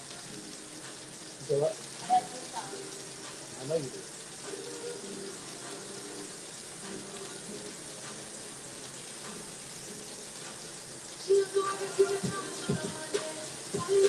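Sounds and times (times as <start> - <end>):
kitchen noise hiss: 0.0 - 14.0.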